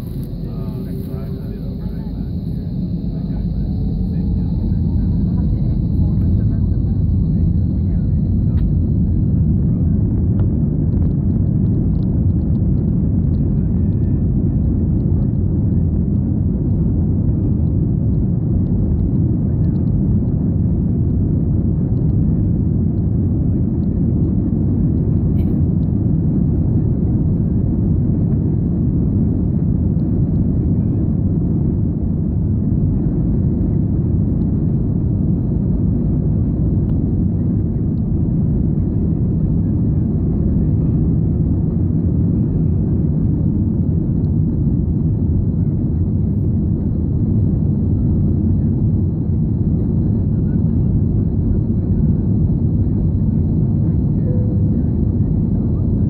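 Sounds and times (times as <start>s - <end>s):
airplane cabin low rumble: 0.0s - 56.0s.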